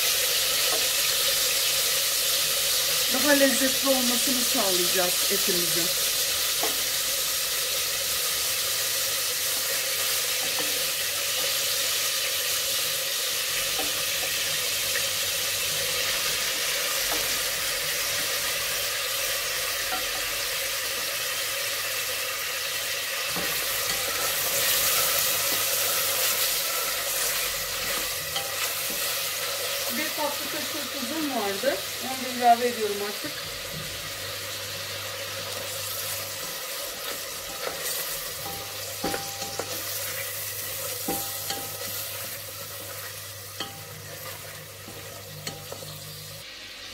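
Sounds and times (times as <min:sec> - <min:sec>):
meat sizzling in oil: 0:00.0 - 0:46.9.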